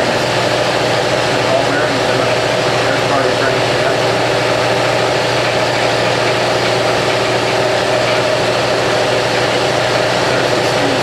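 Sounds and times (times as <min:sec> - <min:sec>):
pump motor humming: 0:00.0 - 0:11.0.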